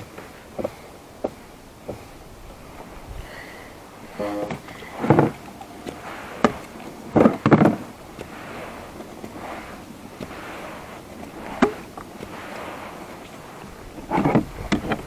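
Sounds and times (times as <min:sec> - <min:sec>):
knocks and clunks on a kayak: 0:00.0 - 0:02.2, 0:04.2 - 0:15.0
low background noise: 0:00.0 - 0:15.0.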